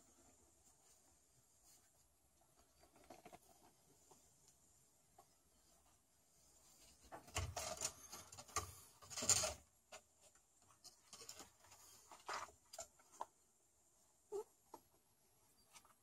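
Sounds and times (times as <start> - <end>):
rustling and rubbing: 0.0 - 13.6, 14.3 - 16.0.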